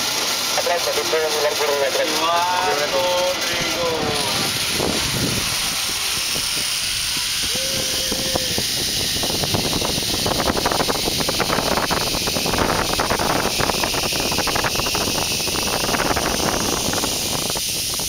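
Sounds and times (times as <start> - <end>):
zipline trolley hissing on cable: 0.0 - 18.0
wind buffeting microphone: 3.3 - 18.0.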